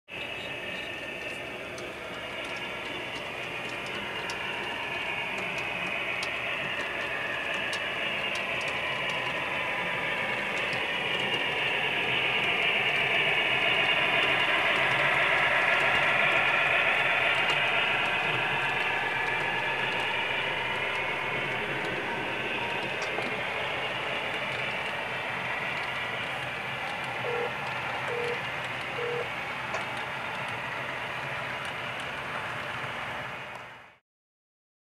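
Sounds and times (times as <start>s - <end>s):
model train running on track: 0.1s - 34.0s.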